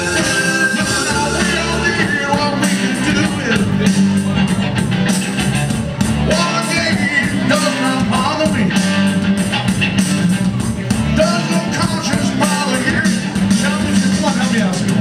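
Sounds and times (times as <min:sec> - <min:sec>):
live rock music: 0:00.0 - 0:15.0.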